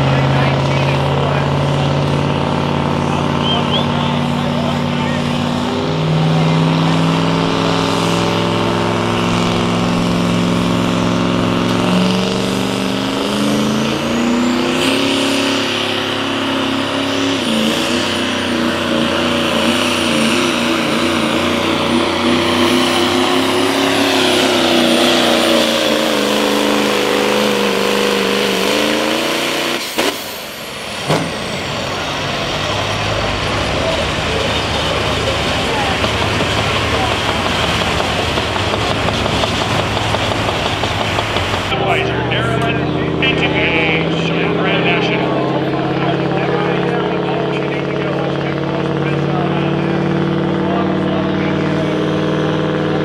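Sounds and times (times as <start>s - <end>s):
diesel truck engine at full throttle: 0.0s - 53.0s.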